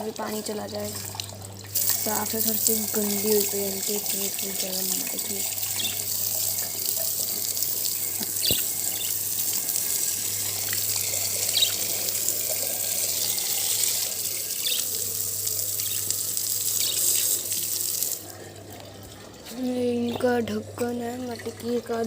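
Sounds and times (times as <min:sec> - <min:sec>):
water running from a tap: 0:00.0 - 0:22.0.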